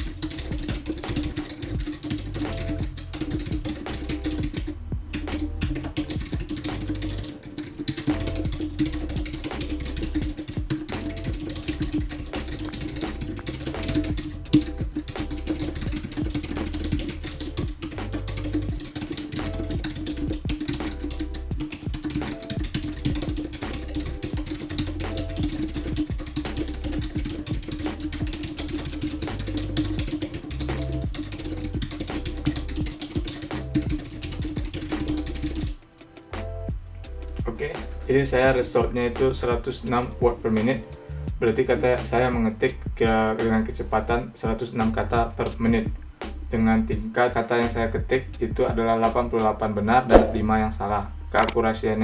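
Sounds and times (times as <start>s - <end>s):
fast keyboard typing: 0.0s - 42.3s, 51.4s - 51.6s
background music with bass line: 0.0s - 52.0s.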